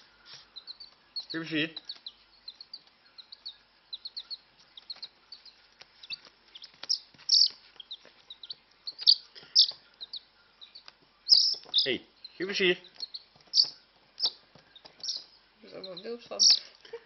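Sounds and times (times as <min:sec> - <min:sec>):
chick peeping: 0:00.0 - 0:17.0.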